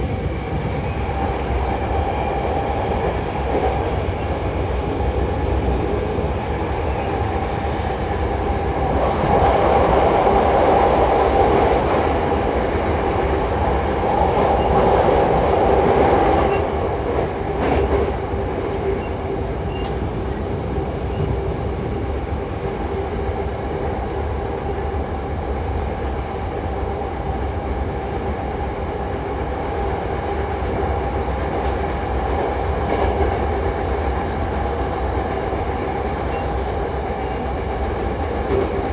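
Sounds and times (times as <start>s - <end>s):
train hum: 0.0s - 38.9s
train wheels rumbling on rail: 0.0s - 38.9s.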